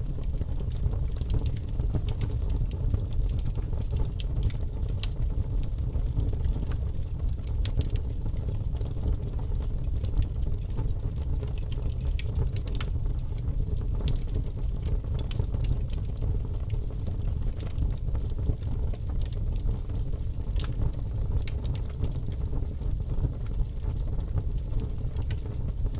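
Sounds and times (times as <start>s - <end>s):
campfire crackling and popping: 0.1s - 25.9s.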